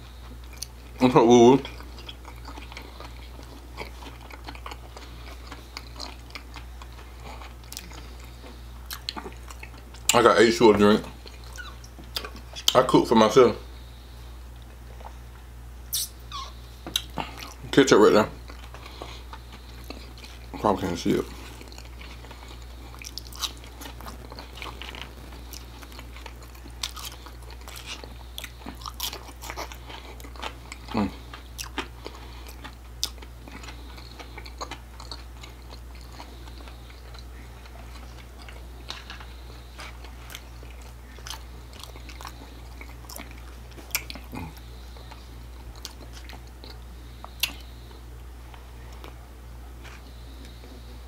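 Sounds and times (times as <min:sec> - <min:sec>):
steady low hum: 0:00.0 - 0:51.0
man chewing with wet smacks: 0:00.2 - 0:12.9, 0:15.9 - 0:17.8, 0:18.4 - 0:51.0.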